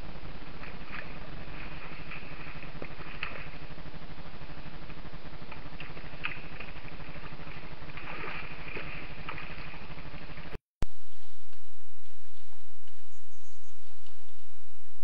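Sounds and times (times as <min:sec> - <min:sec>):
electrical hum and hiss: 0:00.0 - 0:15.0
louder steady hum: 0:00.0 - 0:15.0.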